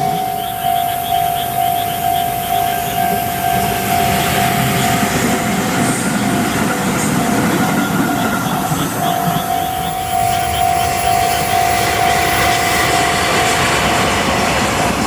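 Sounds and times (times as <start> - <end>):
crossing warning bell ringing: 0.0 - 15.0
train rumbling past: 0.0 - 15.0.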